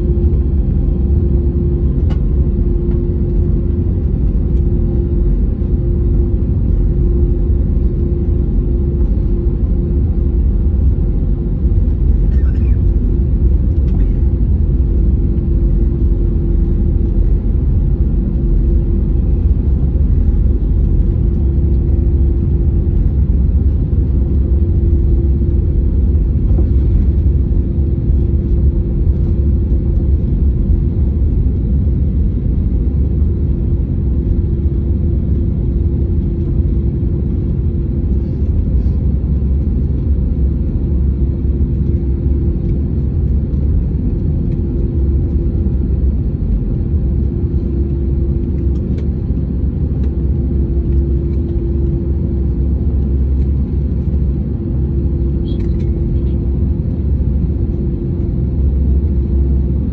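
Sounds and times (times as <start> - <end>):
low vehicle rumble: 0.0 - 56.3
faint hum: 0.0 - 59.9.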